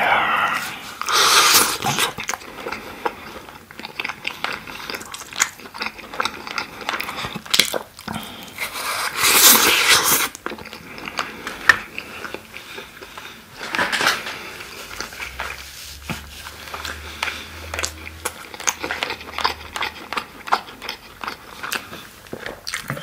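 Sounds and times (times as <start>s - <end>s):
wet sticky chewing: 1.0s - 23.0s.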